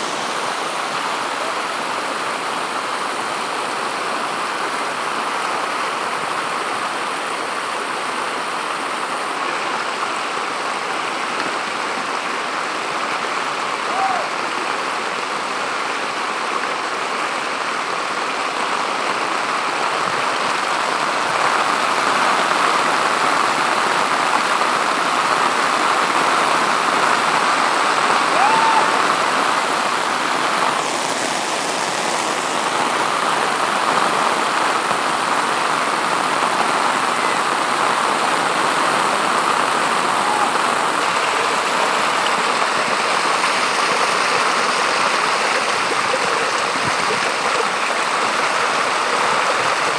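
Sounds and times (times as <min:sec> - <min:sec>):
floodwater flowing: 0:00.0 - 0:49.9
heavy rain: 0:00.0 - 0:49.9.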